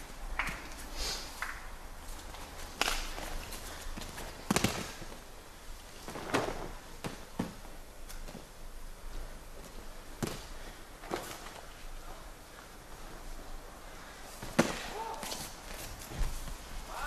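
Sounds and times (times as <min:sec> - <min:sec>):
bare feet shuffling on gym mats: 0:00.0 - 0:17.0
cloth rustling: 0:02.0 - 0:17.0.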